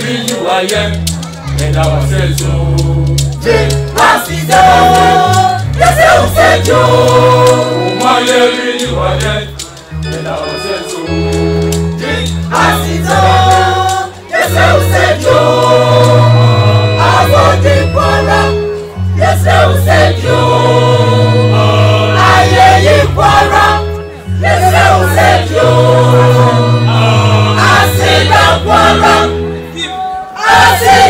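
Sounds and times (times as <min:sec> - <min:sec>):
choir singing gospel song: 0:00.0 - 0:31.0
low sustained bass notes: 0:00.7 - 0:08.2, 0:08.8 - 0:29.8.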